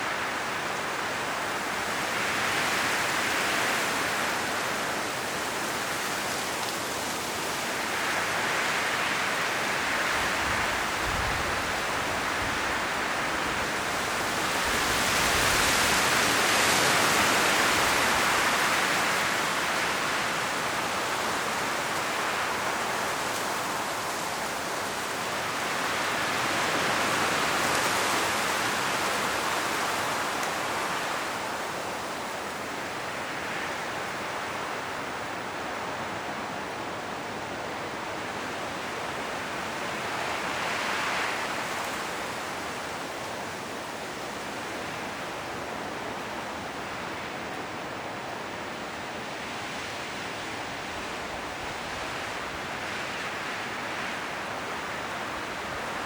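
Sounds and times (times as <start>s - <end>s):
wind rushing through leaves: 0.0s - 56.0s.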